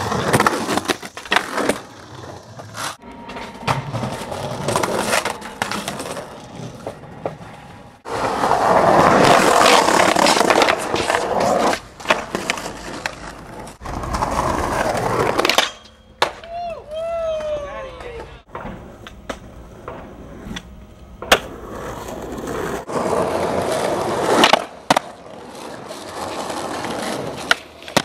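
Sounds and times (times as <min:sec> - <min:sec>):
skateboard wheels rolling on concrete: 0:00.0 - 0:28.0
skateboard clacking on ground: 0:02.7 - 0:07.5, 0:08.8 - 0:16.7, 0:17.3 - 0:28.0.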